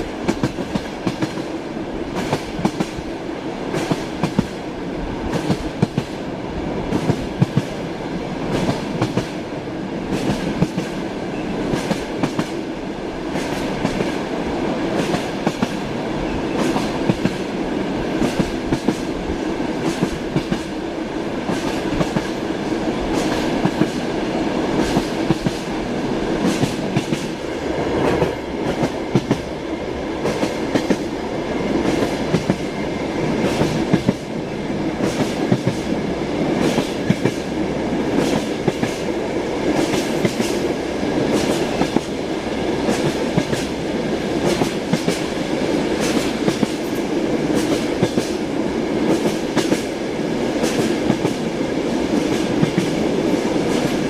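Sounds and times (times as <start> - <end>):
train rumble: 0.0 - 54.0
train wheels clicking over rail joints: 0.2 - 4.6, 5.3 - 6.2, 8.4 - 9.4, 10.1 - 14.3, 14.9 - 15.9, 16.5 - 20.8, 21.4 - 34.3, 35.0 - 42.2, 42.8 - 54.0.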